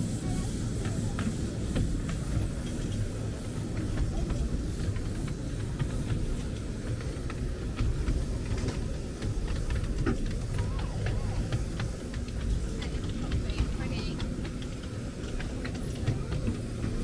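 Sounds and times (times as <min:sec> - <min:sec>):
miniature train rumble: 0:00.0 - 0:17.0.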